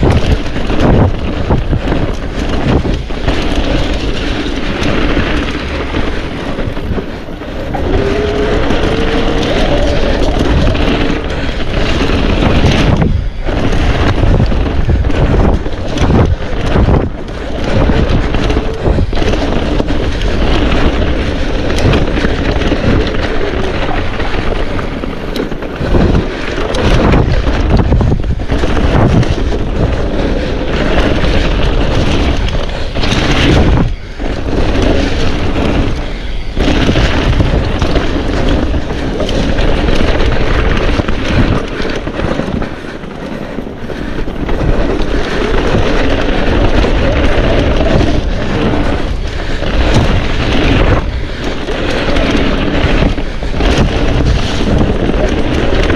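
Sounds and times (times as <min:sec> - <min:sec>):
mountain bike rattling on rough trail: 0:00.0 - 0:55.9
wind buffeting microphone: 0:00.0 - 0:55.9.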